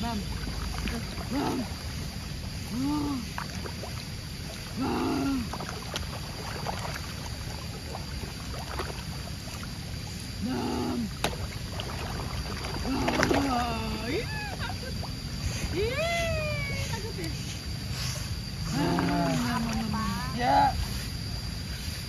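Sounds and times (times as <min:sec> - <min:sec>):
water churning and sloshing: 0:00.0 - 0:15.9, 0:17.5 - 0:21.2.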